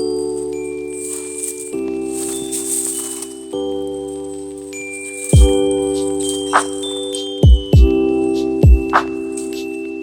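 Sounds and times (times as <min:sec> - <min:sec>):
bell-like chords over a beat: 0:00.0 - 0:10.0.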